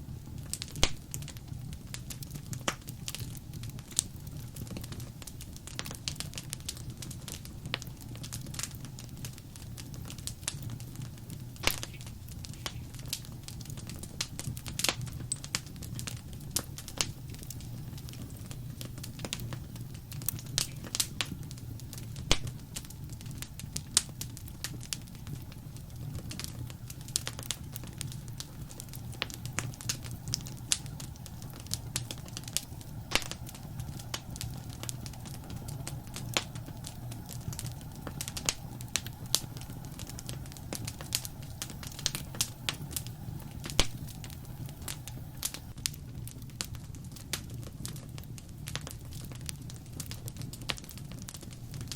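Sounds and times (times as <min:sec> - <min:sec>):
fire popping and snapping: 0:00.0 - 0:51.9
wood fire crackling: 0:00.0 - 0:51.9.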